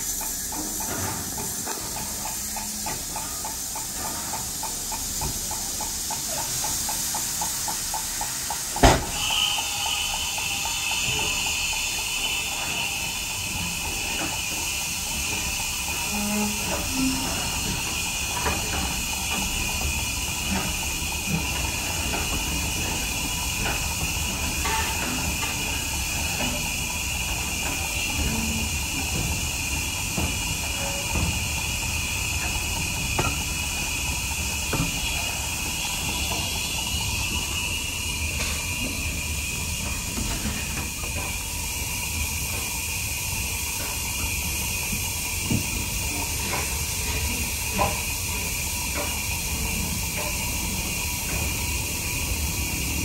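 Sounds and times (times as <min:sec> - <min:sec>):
steam locomotive hiss: 0:00.0 - 0:53.0.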